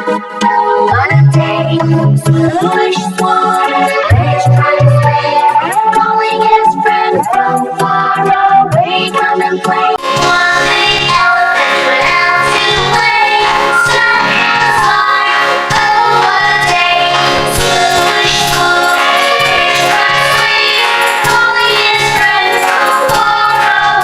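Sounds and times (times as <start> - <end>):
children's song with choir singing: 0.0 - 24.0.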